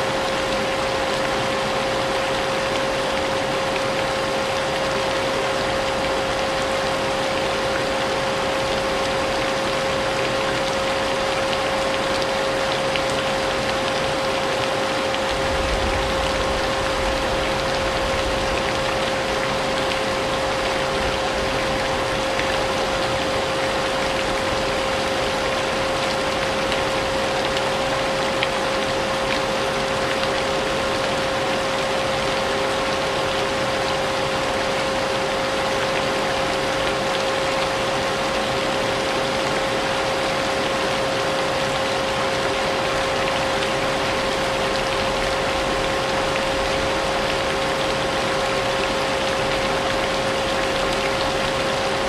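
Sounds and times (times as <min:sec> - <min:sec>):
rain hissing: 0:00.0 - 0:52.0.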